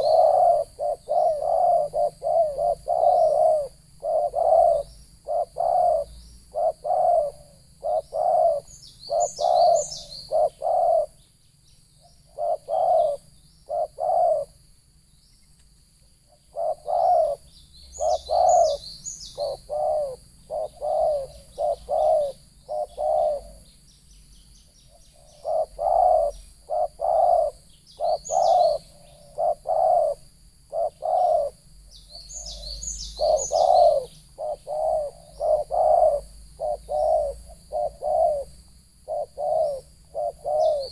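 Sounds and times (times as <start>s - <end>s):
dove cooing: 0.0s - 11.2s, 12.1s - 14.6s, 16.3s - 23.7s, 24.9s - 31.6s, 32.2s - 40.9s.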